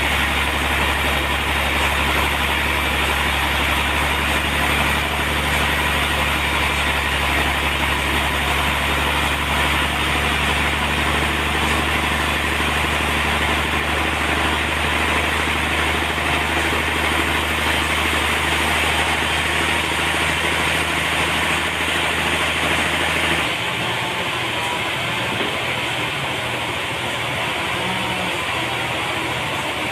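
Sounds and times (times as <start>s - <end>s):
sawmill engine hum: 0.0s - 29.9s.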